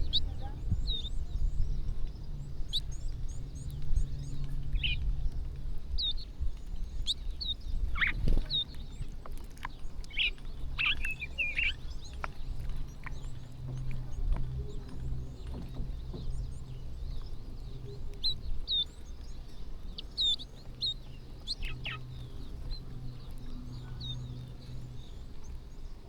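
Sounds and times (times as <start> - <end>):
low rumble: 0.0 - 26.0
small birds chirping: 0.0 - 26.0.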